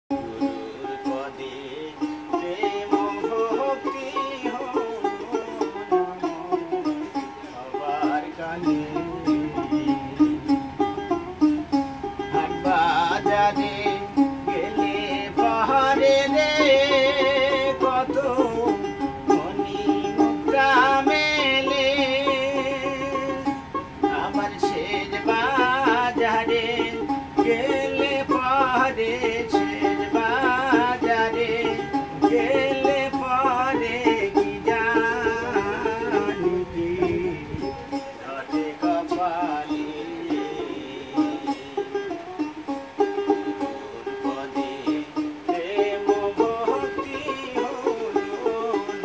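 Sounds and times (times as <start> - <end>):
man singing folk song: 0.1 - 49.0
plucked lute: 0.1 - 49.0.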